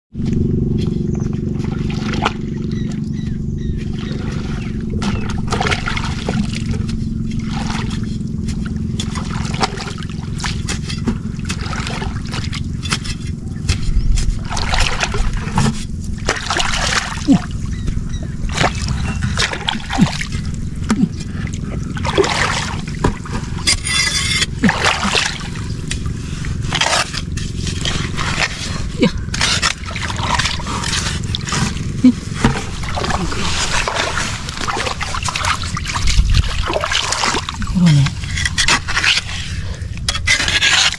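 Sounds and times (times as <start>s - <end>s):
steady low rumble: 0.1s - 40.8s
water sloshing and splashing: 0.1s - 40.9s
scraping in wet mud: 0.2s - 40.9s.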